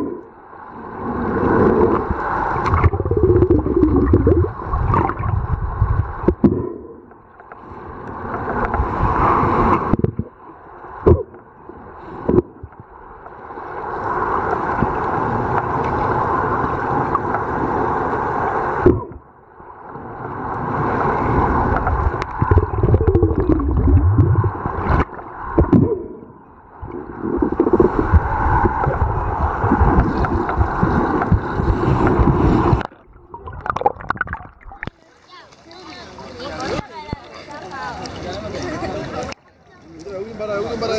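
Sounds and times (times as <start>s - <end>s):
muffled underwater rushing gurgle: 0.0s - 39.6s.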